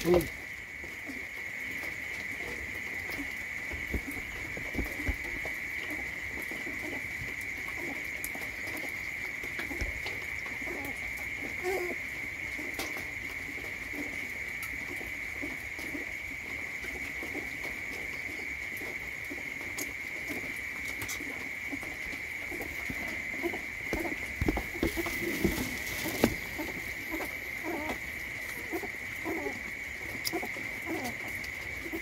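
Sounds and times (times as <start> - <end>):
doves cooing: 0.0 - 32.0.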